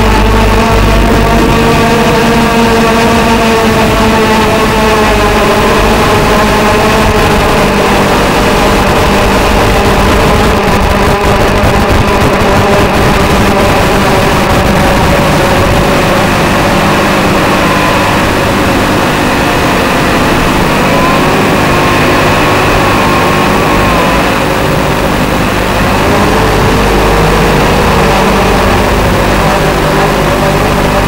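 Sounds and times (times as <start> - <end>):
drone propellers whirring: 0.0 - 31.0.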